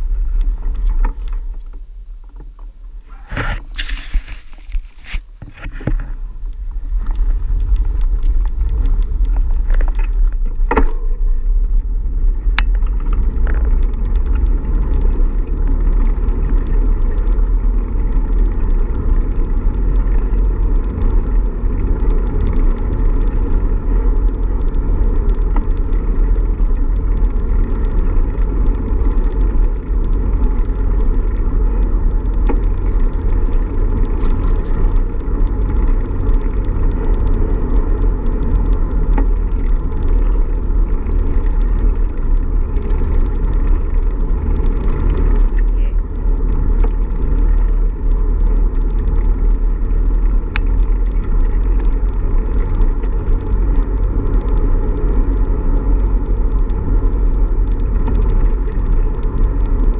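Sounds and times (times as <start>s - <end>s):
bicycle road noise: 0.0s - 59.9s.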